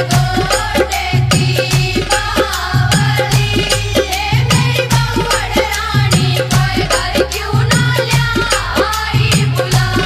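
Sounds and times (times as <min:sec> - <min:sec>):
folk song with fast drum beat: 0:00.0 - 0:10.0.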